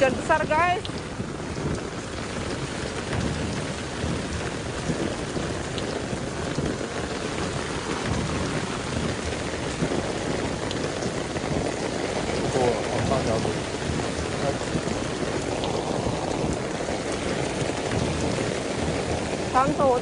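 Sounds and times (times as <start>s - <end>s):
heavy rain on pavement: 0.0s - 20.0s.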